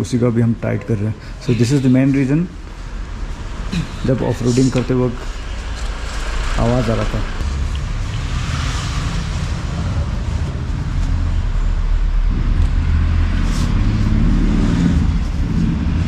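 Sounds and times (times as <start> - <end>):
vehicle engine running: 2.6 - 16.0.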